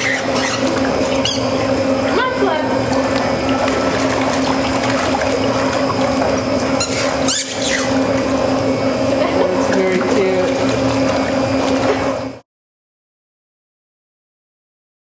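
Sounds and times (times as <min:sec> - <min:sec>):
treadmill motor humming: 0:00.0 - 0:12.4
water churning and splashing: 0:00.0 - 0:12.4.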